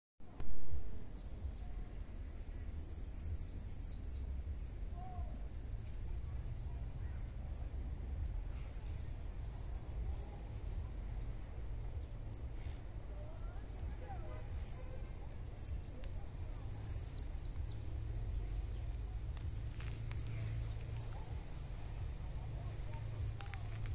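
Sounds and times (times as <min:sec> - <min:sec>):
small birds chirping: 0:00.2 - 0:23.9
steady low rumble: 0:00.2 - 0:23.9.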